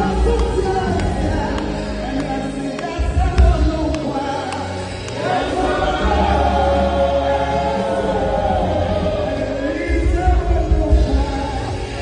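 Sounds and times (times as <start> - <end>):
song with strong bass: 0.0 - 12.0.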